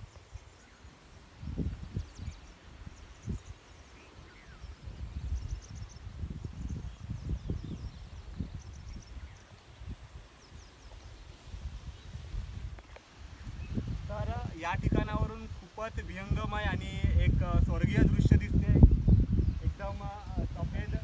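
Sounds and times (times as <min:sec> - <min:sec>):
insect chirps: 0:00.0 - 0:17.0
insects droning: 0:00.0 - 0:21.0
wind buffeting microphone: 0:00.0 - 0:21.0.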